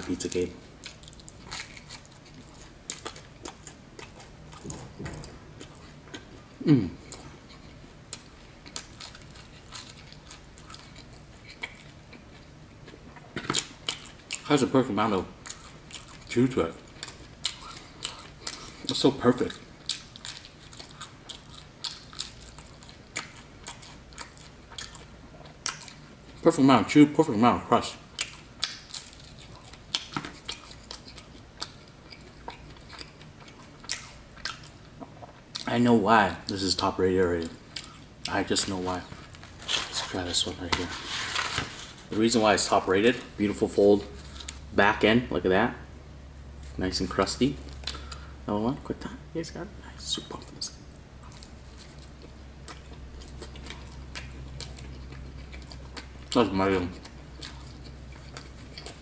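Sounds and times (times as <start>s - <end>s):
chewing pizza crust: 0.0s - 44.8s, 46.6s - 48.3s, 50.2s - 59.0s.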